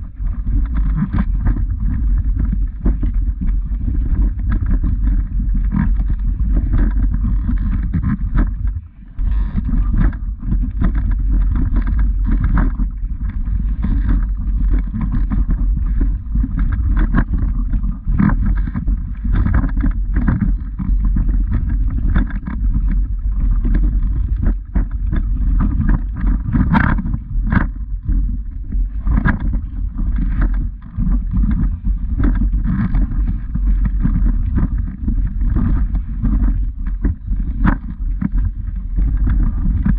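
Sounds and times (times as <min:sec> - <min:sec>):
low microphone rumble: 0:00.0 - 0:39.9.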